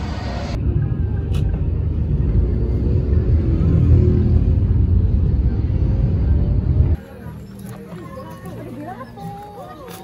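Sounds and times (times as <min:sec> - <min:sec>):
road noise: 0:00.0 - 0:10.0
vehicle engine rumble: 0:00.0 - 0:10.0.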